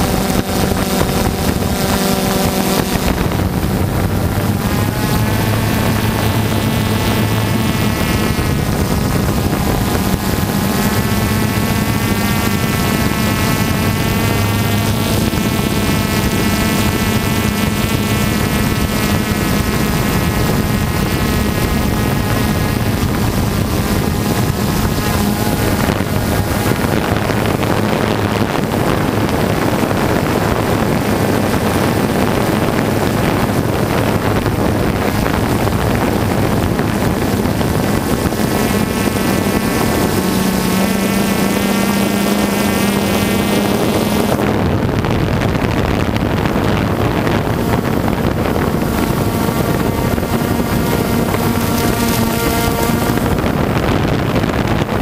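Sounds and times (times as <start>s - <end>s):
drone propellers buzzing: 0.0s - 55.0s
wind rushing over microphone: 0.0s - 55.0s.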